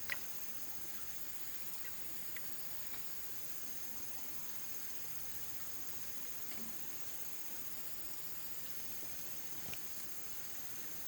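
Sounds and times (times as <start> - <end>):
background hiss: 0.0 - 11.0
insects trilling: 0.0 - 11.0.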